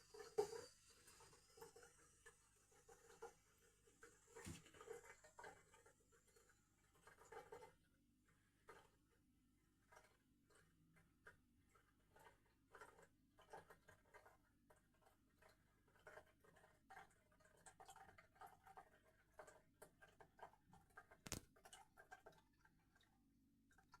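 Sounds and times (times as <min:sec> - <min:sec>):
faint toilet drips and ticks: 0:00.0 - 0:24.0.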